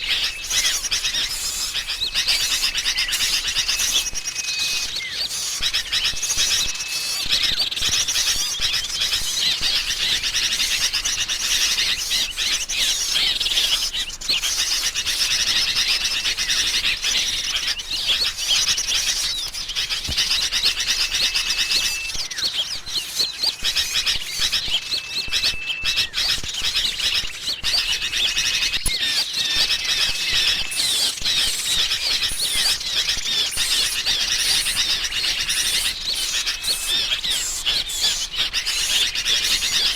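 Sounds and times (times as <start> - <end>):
bulbuls calling: 0.0 - 39.9
small songbirds chirping: 0.0 - 39.9.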